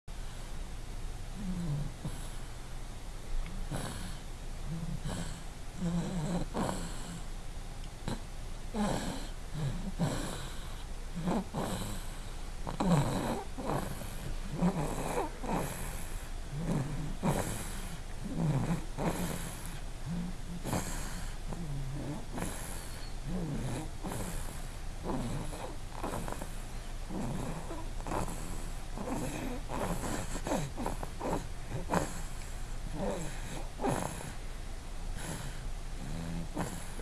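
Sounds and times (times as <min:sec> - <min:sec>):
person snoring: 0:01.4 - 0:02.4, 0:03.5 - 0:07.2, 0:08.0 - 0:34.4, 0:35.1 - 0:37.0.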